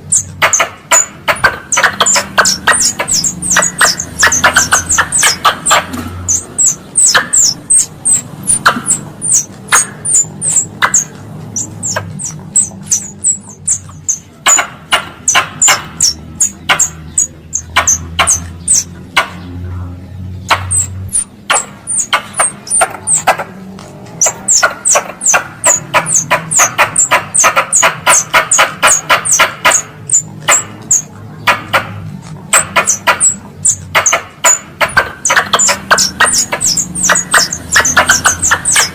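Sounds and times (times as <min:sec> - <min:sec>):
squirrel chirps and squeaks: 0:00.0 - 0:19.6, 0:20.2 - 0:38.9.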